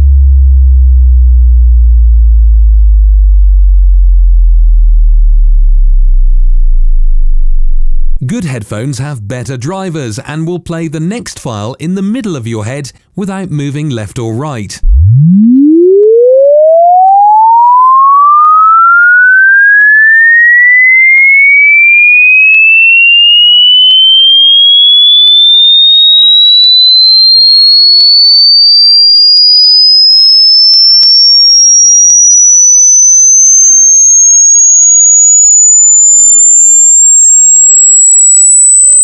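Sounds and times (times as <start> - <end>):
sine tone sweeping upward: 0.0 - 8.2, 14.8 - 39.0.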